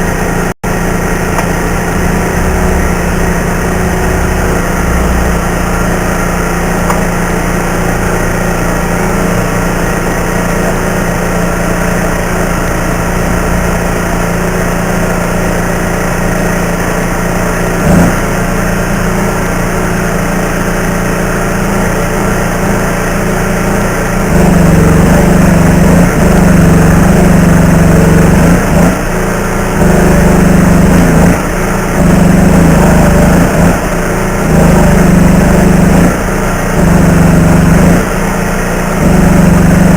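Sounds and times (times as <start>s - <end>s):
welding machine drone: 0.0s - 39.9s.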